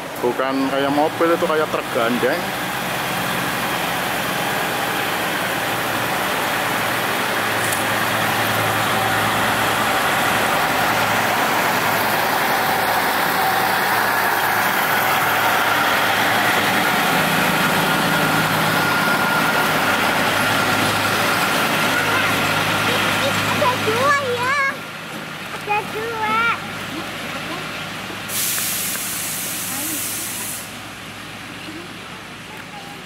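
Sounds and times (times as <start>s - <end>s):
railcar engine hum: 0.0s - 33.0s
railcar rolling noise: 0.0s - 33.0s.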